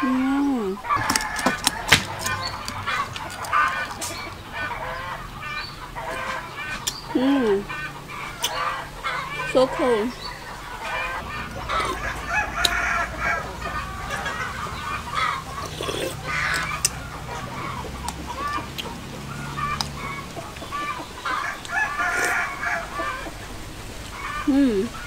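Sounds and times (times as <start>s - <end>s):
chickens clucking: 0.0s - 25.0s
rooster crowing: 0.8s - 6.8s, 7.7s - 23.5s.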